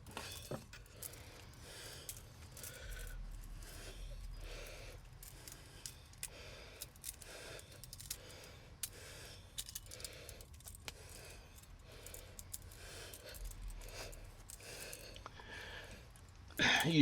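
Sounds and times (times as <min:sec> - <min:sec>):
metallic tool clicks and clinks: 0:00.0 - 0:15.4
heavy breathing: 0:00.0 - 0:17.0.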